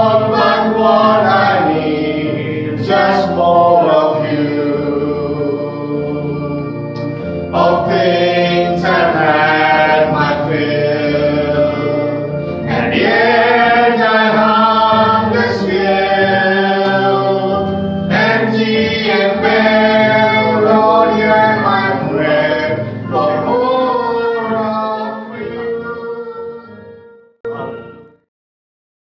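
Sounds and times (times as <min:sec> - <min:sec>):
man and boy singing hymn: 0:00.0 - 0:26.6.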